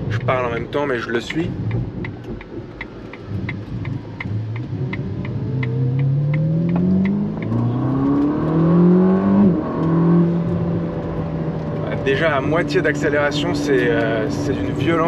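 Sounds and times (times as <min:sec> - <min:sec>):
car engine accelerating through gears: 0:00.0 - 0:15.0
light regular ticking: 0:00.0 - 0:15.0.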